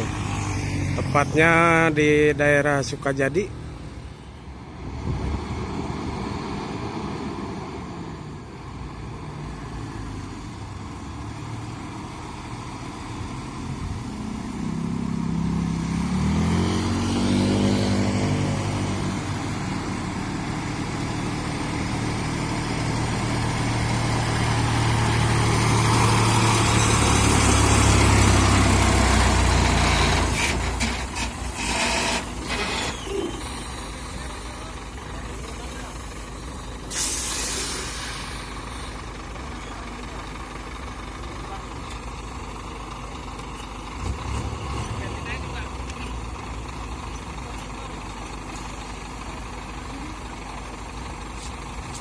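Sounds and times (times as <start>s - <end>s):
truck diesel engine under load: 0.0s - 52.0s.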